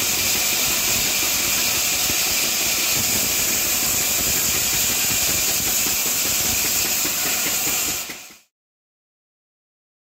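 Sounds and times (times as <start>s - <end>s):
band saw cutting log hiss: 0.0s - 8.5s.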